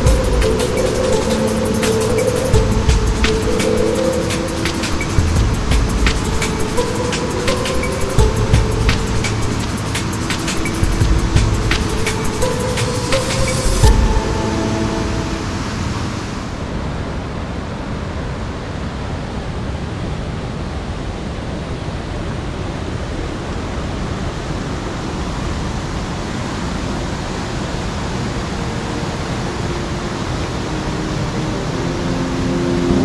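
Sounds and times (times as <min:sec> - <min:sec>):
waterfall rushing: 0:00.0 - 0:18.9, 0:23.4 - 0:33.0.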